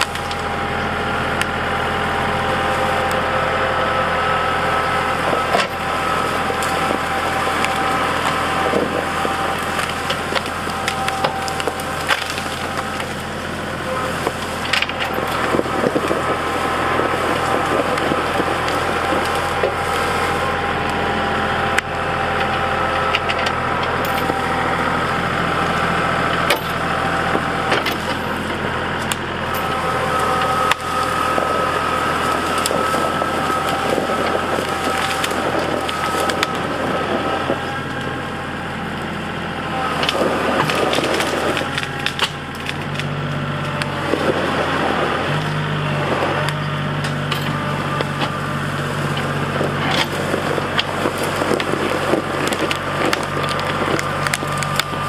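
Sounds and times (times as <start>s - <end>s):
branches cracking and snapping: 0.0s - 55.0s
tractor engine running: 0.0s - 55.0s.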